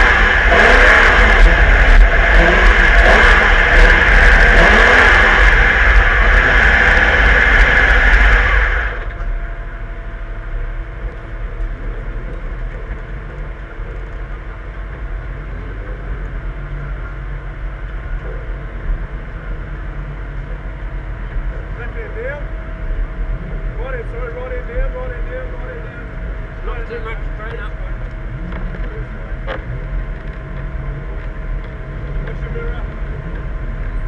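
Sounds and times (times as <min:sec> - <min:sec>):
racing car engine revving: 0:00.0 - 0:09.8, 0:10.4 - 0:34.0.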